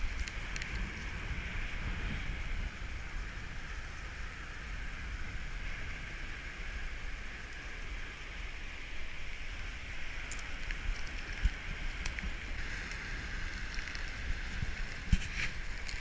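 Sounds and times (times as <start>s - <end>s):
ocean surf washing on beach: 0.0s - 16.0s
wind rumble on microphone: 0.0s - 16.0s.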